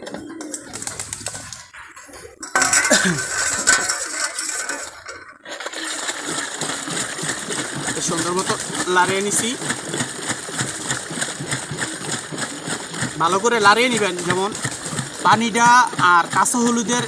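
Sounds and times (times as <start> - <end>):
stirring with clinking and clatter: 0.0 - 17.0.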